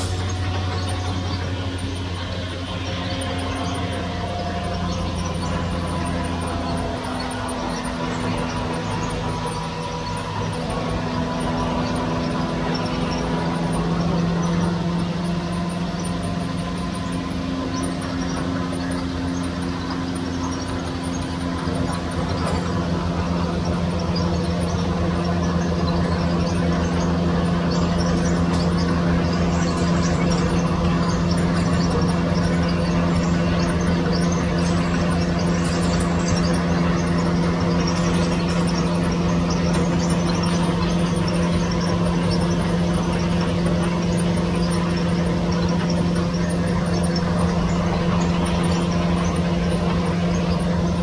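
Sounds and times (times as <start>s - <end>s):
sieve machine humming: 0.0s - 51.0s.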